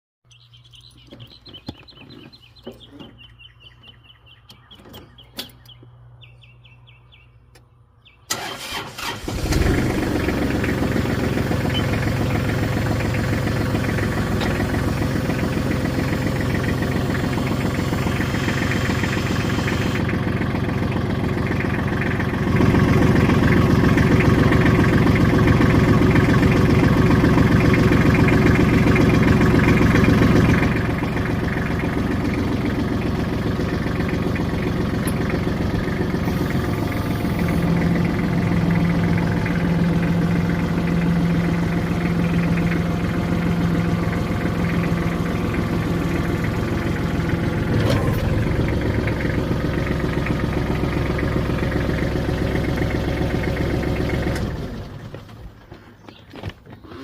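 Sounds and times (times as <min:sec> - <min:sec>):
starter cranking diesel engine: 0:08.3 - 0:55.6
diesel engine running: 0:08.3 - 0:57.0.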